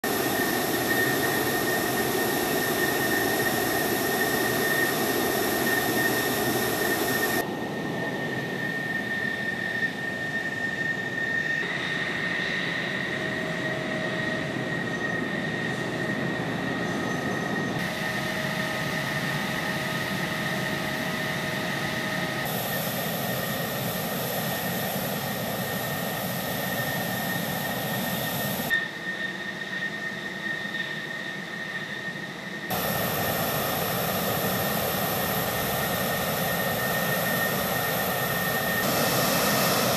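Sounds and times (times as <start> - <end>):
jet engine idling with whine: 0.0 - 39.9.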